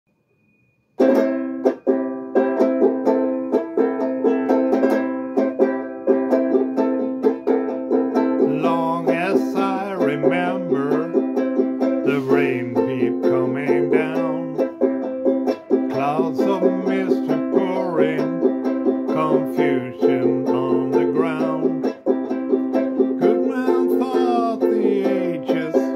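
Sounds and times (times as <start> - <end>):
lower melody line: 1.0 - 25.9
plucked string instrument strumming: 1.0 - 25.9.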